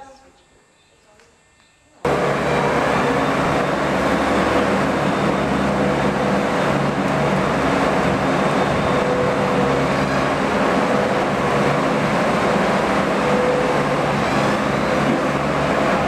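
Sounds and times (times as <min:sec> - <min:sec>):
machine running steadily: 0:01.0 - 0:16.0
low hum: 0:02.0 - 0:16.0.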